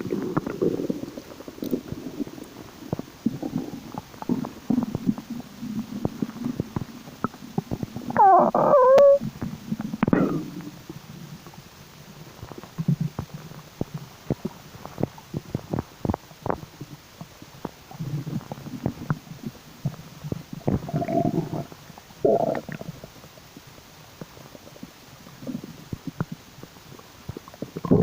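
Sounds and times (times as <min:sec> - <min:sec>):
stomach rumbling and gurgling: 0:00.0 - 0:28.0.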